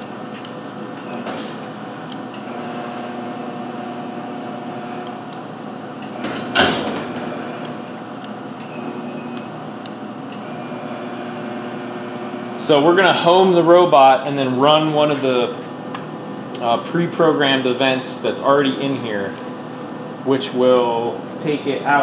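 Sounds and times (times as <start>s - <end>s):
ultrasonic cleaner hum: 0.0s - 22.0s.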